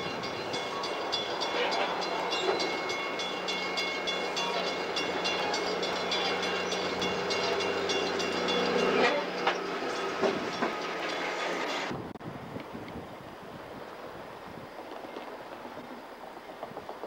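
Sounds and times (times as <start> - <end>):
diesel locomotive passing: 0.0 - 17.0
train wheels clicking over rail joints: 0.1 - 11.9, 13.9 - 17.0.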